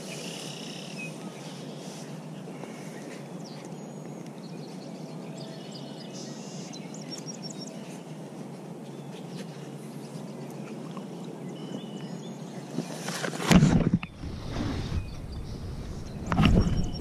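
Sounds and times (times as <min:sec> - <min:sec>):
outdoor background noise: 0:00.0 - 0:17.0
songbird chirping: 0:00.0 - 0:17.0.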